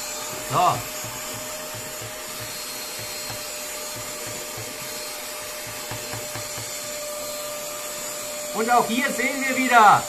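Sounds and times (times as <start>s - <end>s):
handheld vacuum cleaner whining: 0.0s - 10.0s.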